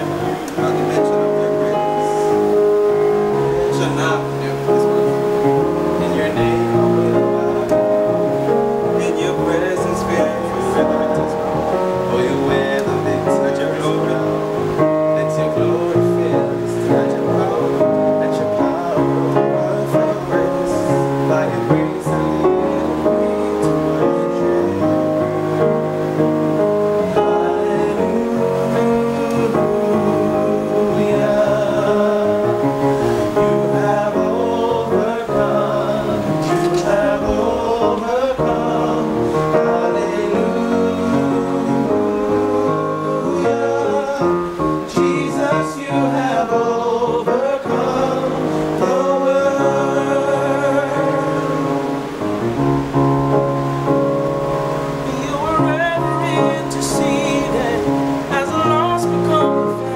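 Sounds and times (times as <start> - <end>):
keyboard accompaniment: 0.0 - 59.9
men singing in harmony: 0.0 - 59.9.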